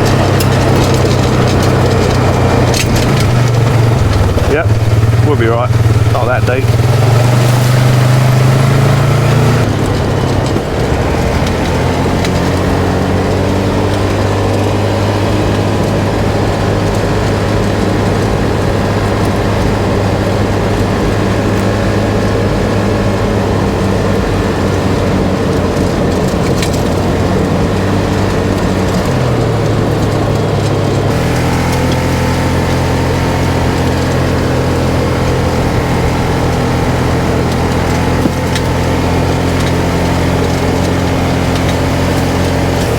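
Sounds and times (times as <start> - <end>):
off-road vehicle engine running: 0.0 - 42.9.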